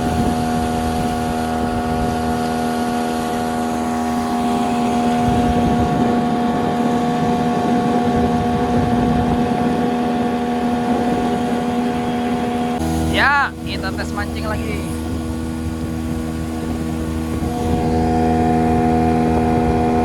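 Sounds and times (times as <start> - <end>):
outboard motor running: 0.0 - 20.0
water and wind rushing: 0.0 - 20.0.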